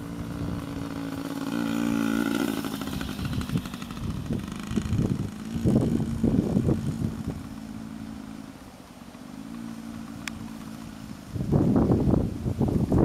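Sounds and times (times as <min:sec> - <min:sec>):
dirt bike engine revving: 0:00.0 - 0:12.1.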